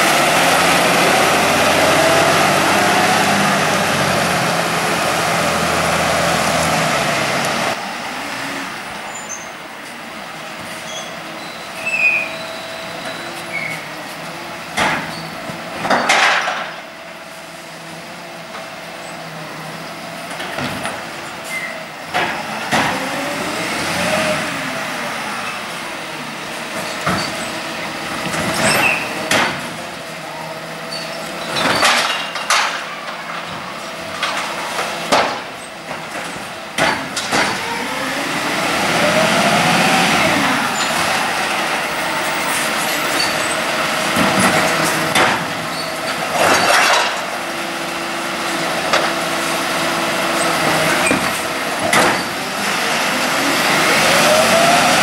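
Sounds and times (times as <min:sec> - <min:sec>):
garbage truck engine running: 0:00.0 - 0:55.0.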